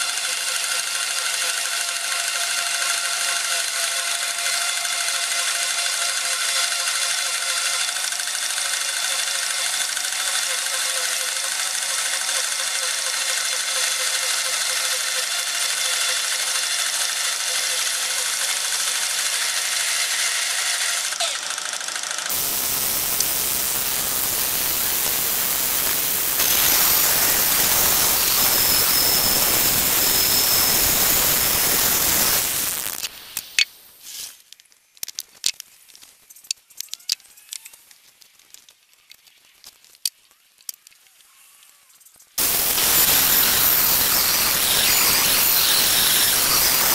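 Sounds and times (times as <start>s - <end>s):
band saw cutting log: 0.0s - 33.4s, 42.4s - 46.9s.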